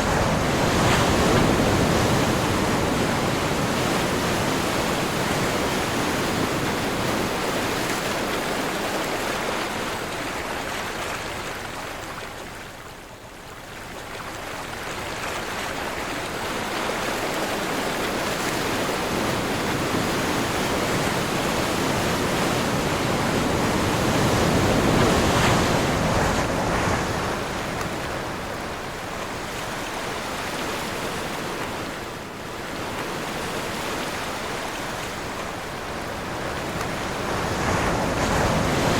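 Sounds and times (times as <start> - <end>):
sea waves rushing: 0.0 - 12.3, 15.2 - 38.9
wind: 0.0 - 38.9.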